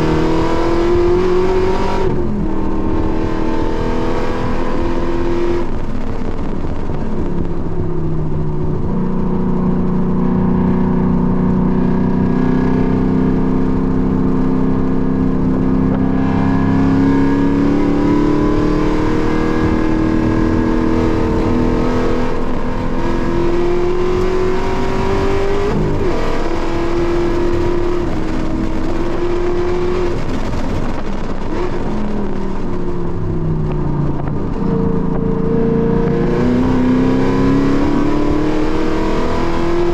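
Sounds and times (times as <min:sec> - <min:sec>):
racing car engine at full throttle: 0:00.0 - 0:39.9.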